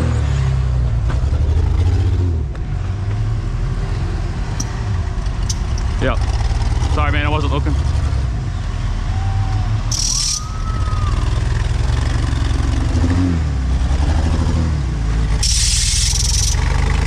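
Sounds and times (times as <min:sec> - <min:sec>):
truck engine running: 0:00.7 - 0:17.0.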